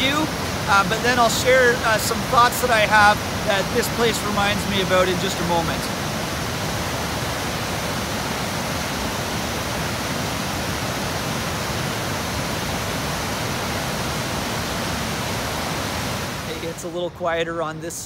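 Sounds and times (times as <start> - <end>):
waterfall rushing over rocks: 0.0 - 18.0.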